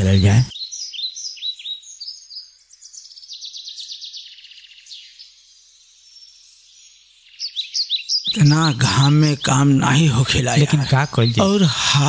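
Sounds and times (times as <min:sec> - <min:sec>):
birds chirping and trilling: 0:00.0 - 0:12.0.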